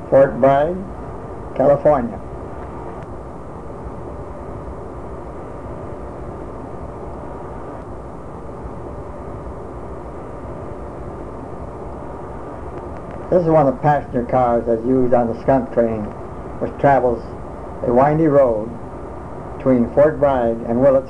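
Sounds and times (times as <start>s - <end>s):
faint hum: 0.0s - 21.0s
steady drone: 0.0s - 21.0s.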